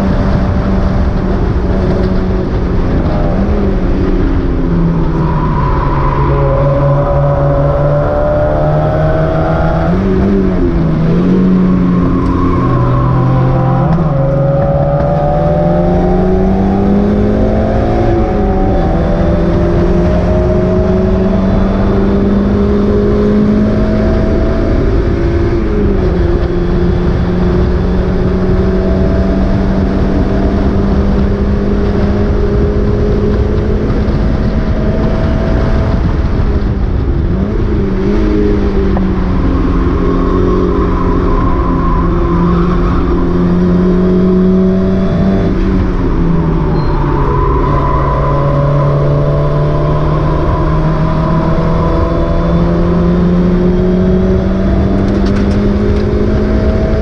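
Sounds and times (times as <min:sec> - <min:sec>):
race car engine running hard: 0:00.0 - 0:57.0
wind and road noise: 0:00.0 - 0:57.0.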